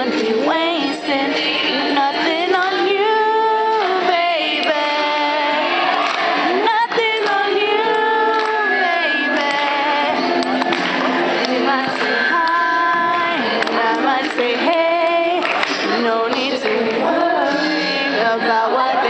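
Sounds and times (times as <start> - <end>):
girls singing: 0.0 - 19.0.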